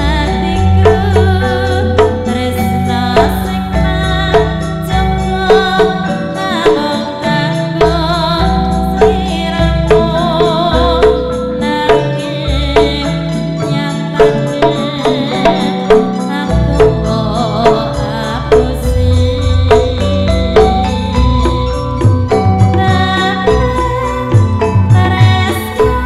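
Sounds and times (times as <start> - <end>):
gamelan bronze instruments struck: 0.0 - 26.0
woman singing ornamented lines: 0.0 - 26.0.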